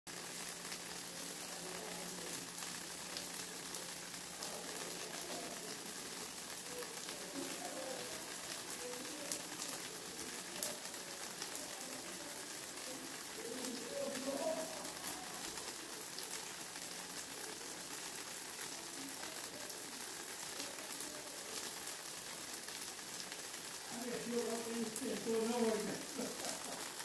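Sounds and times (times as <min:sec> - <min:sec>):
rain hiss: 0:00.1 - 0:27.0.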